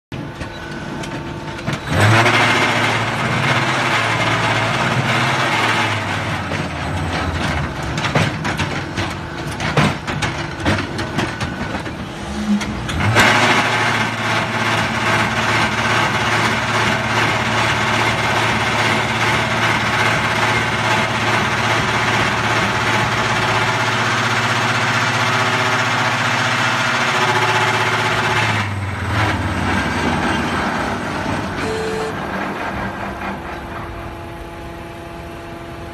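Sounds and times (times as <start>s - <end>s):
block machine humming and rattling: 0.1s - 35.9s.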